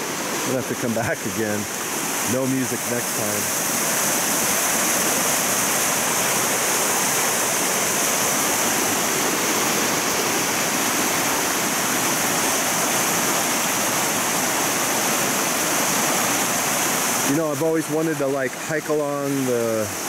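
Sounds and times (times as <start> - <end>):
creek rushing over stones: 0.0 - 20.0.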